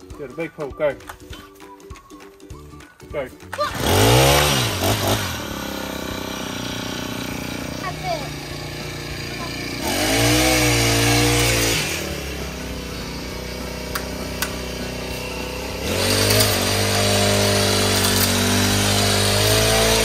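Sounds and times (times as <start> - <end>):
hedge trimmer engine revving: 3.6 - 20.0.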